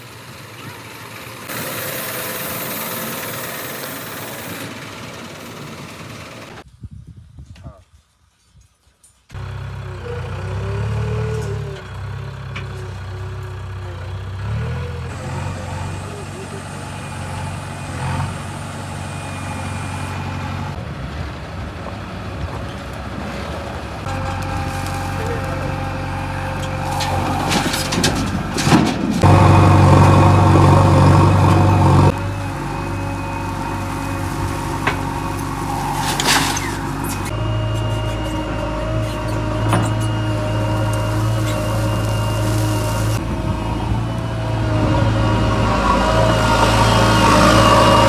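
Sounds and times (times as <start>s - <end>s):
diesel engine rumbling: 0.0s - 6.8s, 9.2s - 48.0s.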